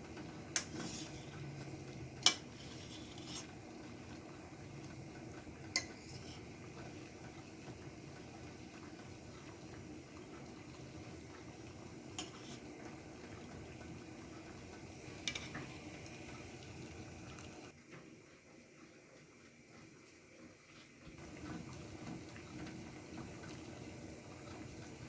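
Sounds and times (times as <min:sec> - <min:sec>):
soup bubbling in a pot: 0:00.0 - 0:25.0.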